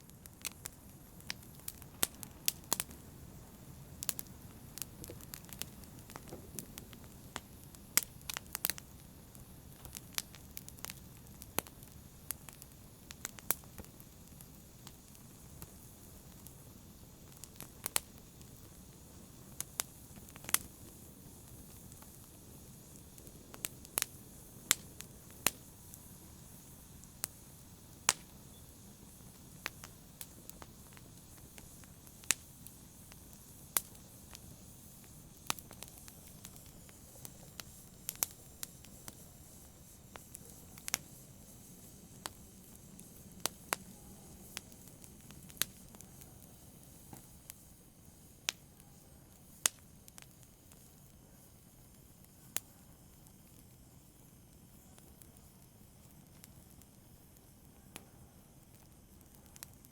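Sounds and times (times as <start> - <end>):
fire popping and snapping: 0.0 - 59.9
wood fire crackling: 0.0 - 59.9.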